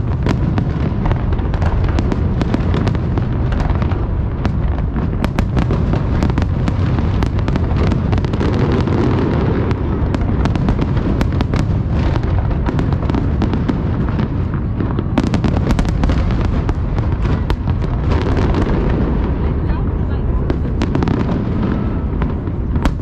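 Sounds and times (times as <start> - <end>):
firework cracks and pops: 0.0 - 23.0
low rumble of firework bursts: 0.0 - 23.0.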